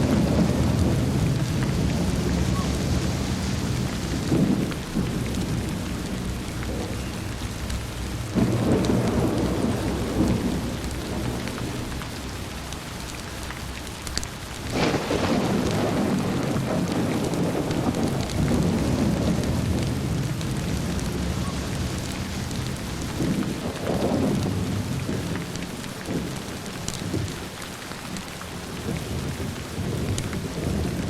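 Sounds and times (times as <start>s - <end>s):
low rumble of thunder: 0.0s - 31.0s
steady rain: 0.0s - 31.0s.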